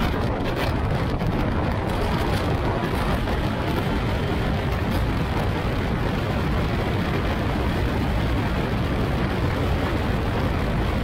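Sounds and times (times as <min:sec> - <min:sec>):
motorbike engine running: 0:00.0 - 0:11.0
wind rush on microphone: 0:00.0 - 0:11.0.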